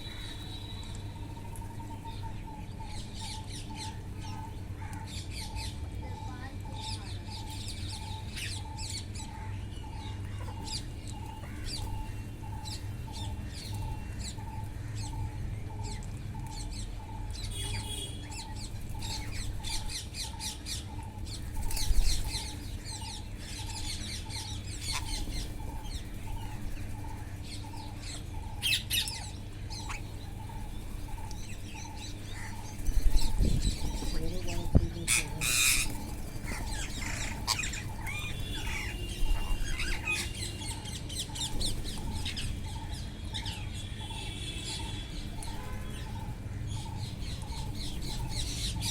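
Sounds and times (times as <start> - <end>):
parrots chirping and squawking: 6.7 - 48.9.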